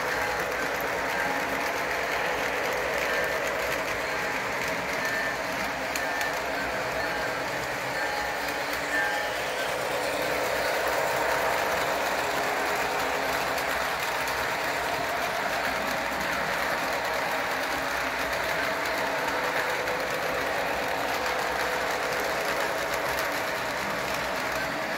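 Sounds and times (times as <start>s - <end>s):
model train running on track: 0.0s - 24.9s.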